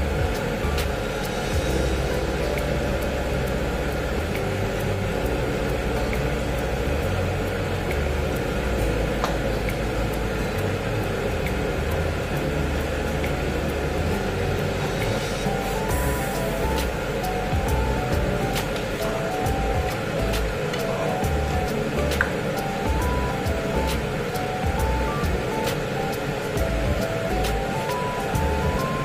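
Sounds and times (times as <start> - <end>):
pot boiling hard: 0.0 - 29.0.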